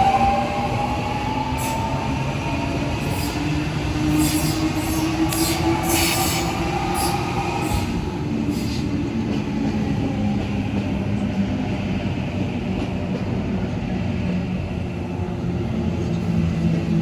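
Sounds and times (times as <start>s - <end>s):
passenger train rumbling: 0.0s - 17.0s.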